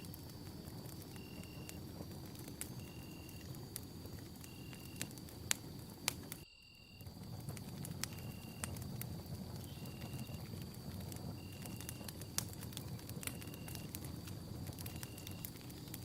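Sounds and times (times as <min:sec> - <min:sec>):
flames rustling: 0:00.0 - 0:06.4, 0:07.0 - 0:16.0
fire crackling and popping: 0:00.0 - 0:16.0.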